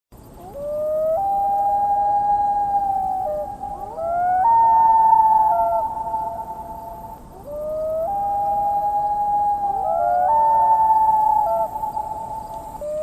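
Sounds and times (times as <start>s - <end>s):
loon wailing: 0.4s - 13.0s.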